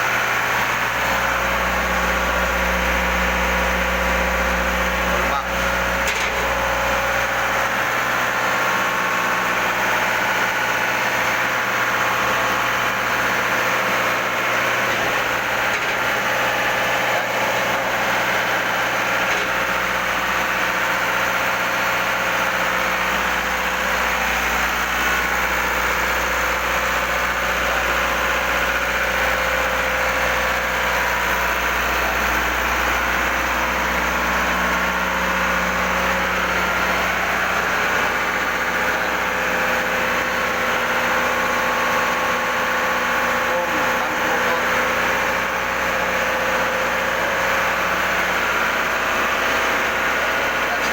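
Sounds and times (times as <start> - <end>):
engine-room machinery drone: 0.0 - 50.9.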